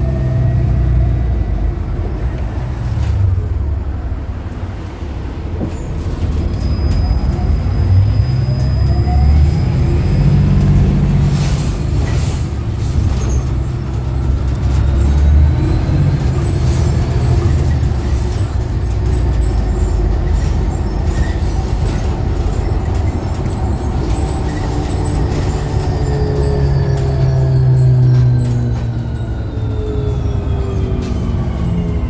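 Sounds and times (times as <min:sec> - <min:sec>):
bus driveline and road drone: 0:00.0 - 0:32.0.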